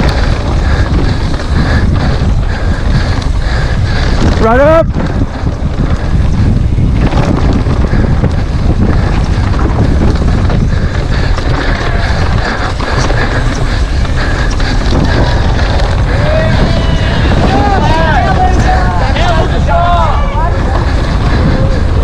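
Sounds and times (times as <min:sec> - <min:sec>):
bike rumble and rattle on trail: 0:00.0 - 0:22.0
wind buffeting microphone: 0:00.0 - 0:22.0.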